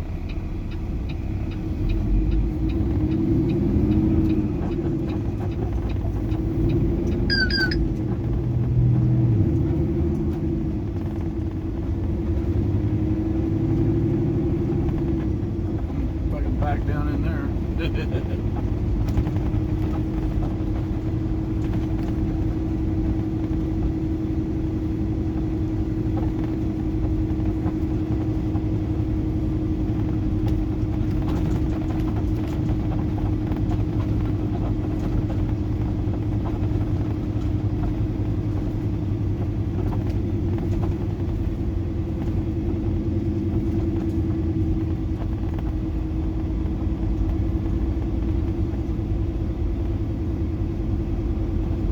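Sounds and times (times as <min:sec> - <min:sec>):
diesel truck engine rumbling: 0:00.0 - 0:51.9.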